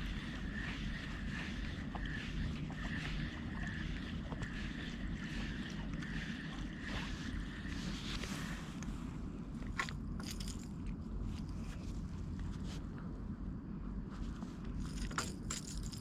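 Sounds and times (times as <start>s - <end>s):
faint high whir: 0.0s - 16.0s.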